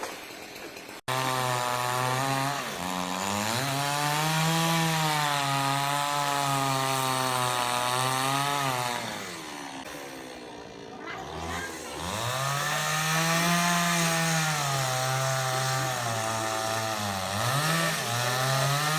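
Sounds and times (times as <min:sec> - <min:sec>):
chainsaw running at high revs: 0:00.1 - 0:18.9.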